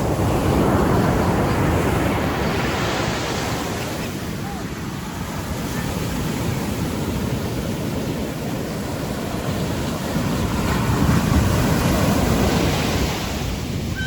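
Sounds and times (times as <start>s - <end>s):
ocean surf washing onto beach: 0.0s - 14.0s
wind buffeting the microphone: 0.0s - 14.0s.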